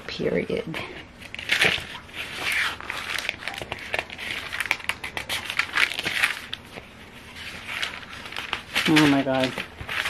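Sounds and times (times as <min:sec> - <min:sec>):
book pages flipping: 0:01.2 - 0:10.0.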